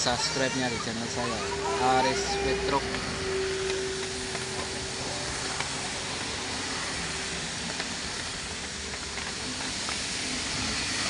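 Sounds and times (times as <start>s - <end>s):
rain hissing: 0.0s - 11.0s
truck engine running: 0.0s - 11.0s
wet road noise: 0.0s - 11.0s.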